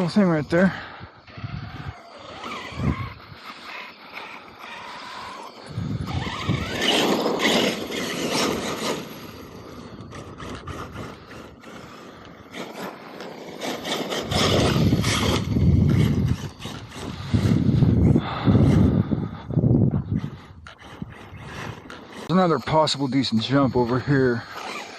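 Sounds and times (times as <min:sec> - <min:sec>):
rc truck motor whine: 0:00.0 - 0:24.9
tyres churning gravel: 0:01.9 - 0:19.0, 0:20.2 - 0:24.9.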